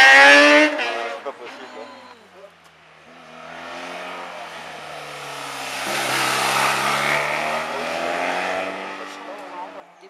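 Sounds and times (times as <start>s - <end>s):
motorcycle engine passing: 0.0s - 1.4s, 2.7s - 9.8s.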